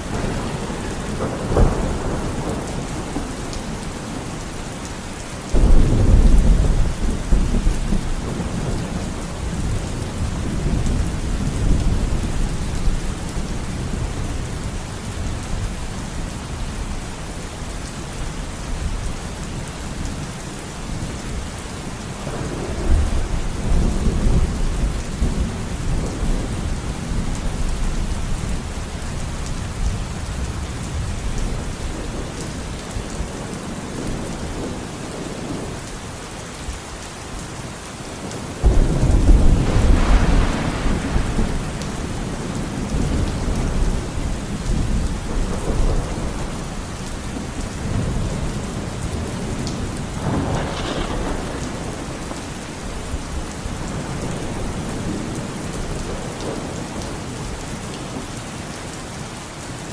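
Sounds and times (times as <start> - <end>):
thunder rumbling: 0.0 - 15.7, 22.2 - 35.8, 38.3 - 58.1
steady rain: 0.0 - 59.9.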